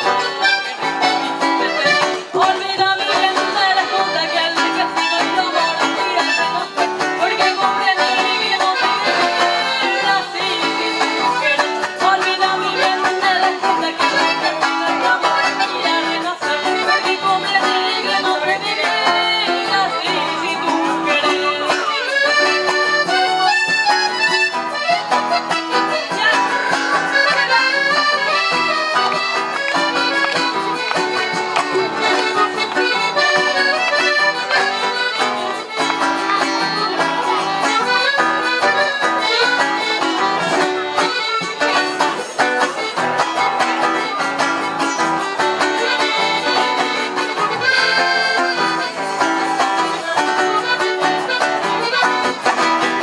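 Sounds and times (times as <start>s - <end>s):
accordion playing melody: 0.0s - 53.0s
acoustic guitar accompaniment: 0.0s - 53.0s.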